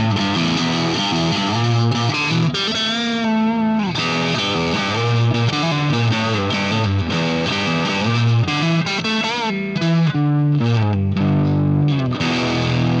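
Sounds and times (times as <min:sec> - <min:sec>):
electric guitar picked notes: 0:00.0 - 0:13.0.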